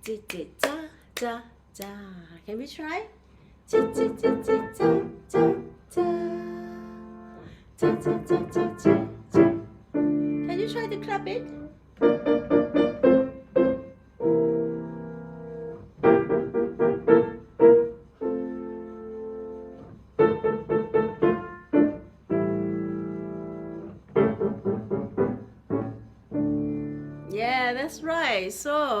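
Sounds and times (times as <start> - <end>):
piano playing rhythmic phrase: 3.7 - 27.4.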